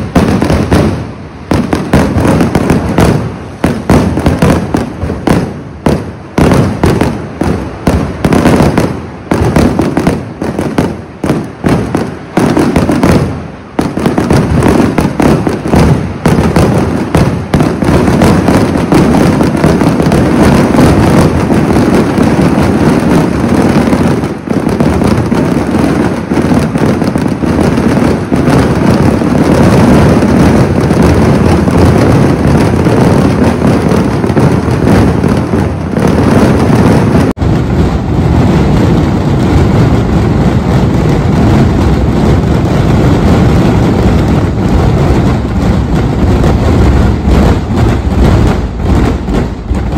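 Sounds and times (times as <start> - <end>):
fireworks exploding: 0.0 - 49.9.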